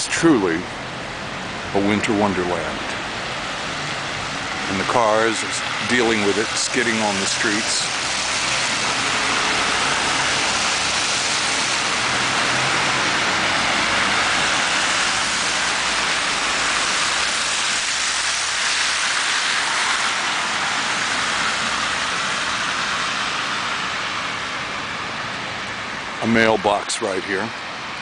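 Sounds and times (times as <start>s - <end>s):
tyres hissing through wet snow: 0.0s - 28.0s.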